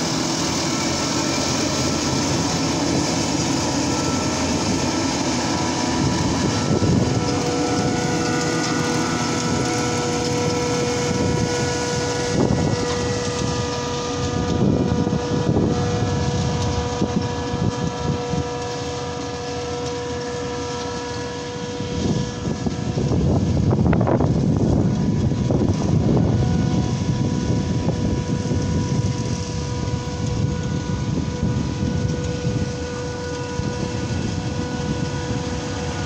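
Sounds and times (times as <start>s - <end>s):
heavy engine drone with whine: 0.0s - 36.0s.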